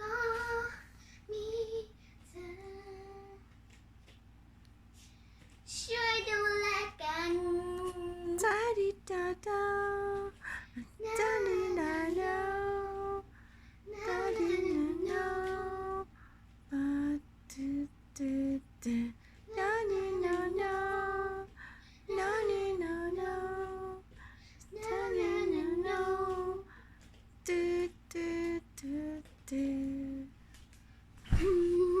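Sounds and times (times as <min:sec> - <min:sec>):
child singing pop song: 0:00.0 - 0:03.6, 0:05.4 - 0:30.4, 0:31.3 - 0:32.0.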